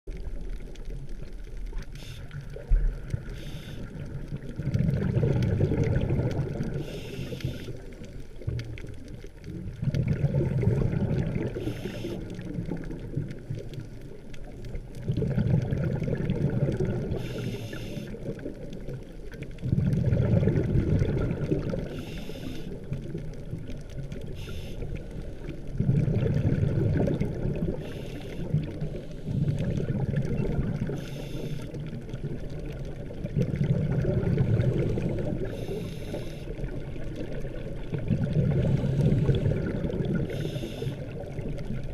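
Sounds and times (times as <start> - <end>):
underwater exhaled bubbles: 0.1 - 41.9.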